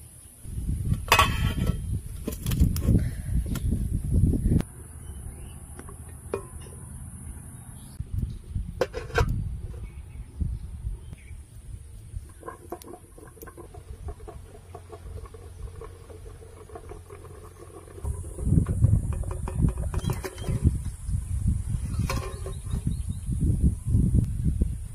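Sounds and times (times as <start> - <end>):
low steady rumble: 2.9 - 24.9.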